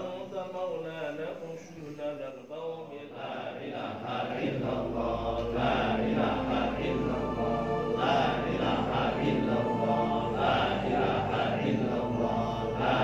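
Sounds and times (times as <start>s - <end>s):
group chanting prayers: 0.0s - 13.0s.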